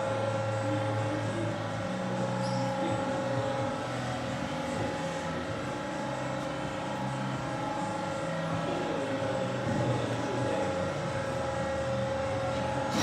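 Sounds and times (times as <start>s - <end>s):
boring machine humming with whine: 0.0s - 13.0s.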